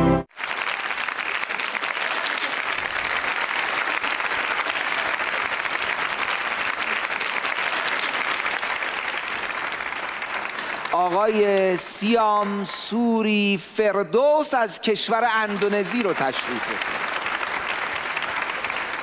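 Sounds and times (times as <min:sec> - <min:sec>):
audience applauding: 0:00.3 - 0:13.4, 0:14.8 - 0:19.0.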